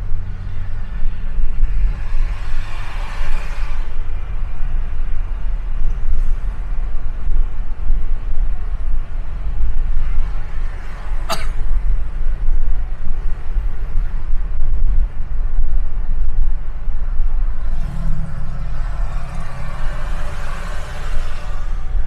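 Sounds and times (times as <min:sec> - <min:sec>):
car driving low rumble: 0:00.0 - 0:22.0.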